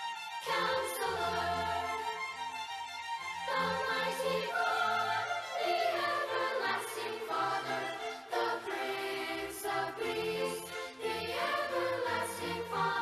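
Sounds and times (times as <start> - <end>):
children's choir singing: 0.4 - 2.6, 3.2 - 13.0.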